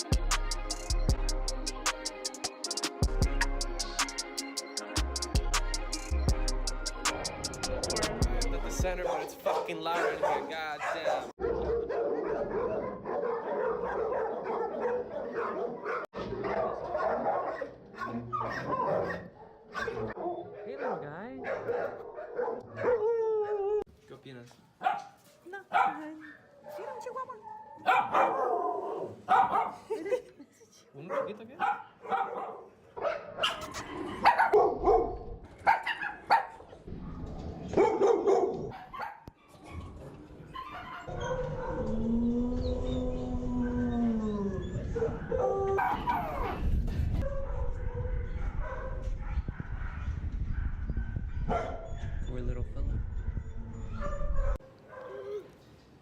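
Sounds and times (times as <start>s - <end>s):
dogs barking and yipping: 7.0s - 23.8s, 24.8s - 30.0s, 31.0s - 55.6s.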